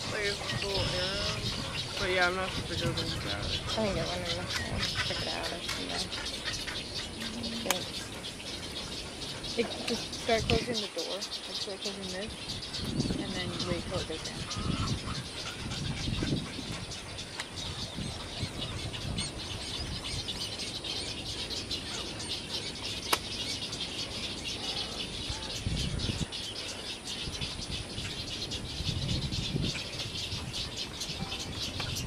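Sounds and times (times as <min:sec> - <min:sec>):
bird colony chirping: 0:00.0 - 0:32.0.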